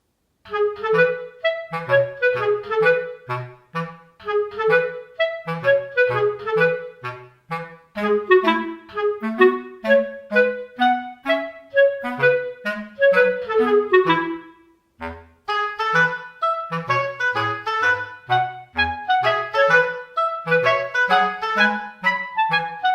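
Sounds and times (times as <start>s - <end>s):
bouncy woodwind tune: 0.4s - 22.9s.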